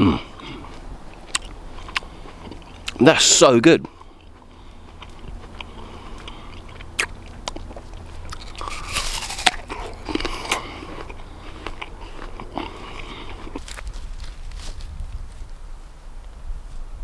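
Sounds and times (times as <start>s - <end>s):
crunchy apple bites: 0.0s - 15.0s
person chewing apple: 0.0s - 15.0s.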